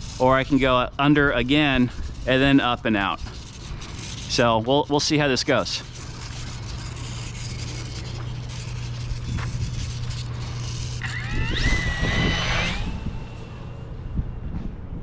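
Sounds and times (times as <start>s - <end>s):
electric motor whine: 0.0s - 4.5s, 5.4s - 14.9s
steady low hum: 0.0s - 15.0s.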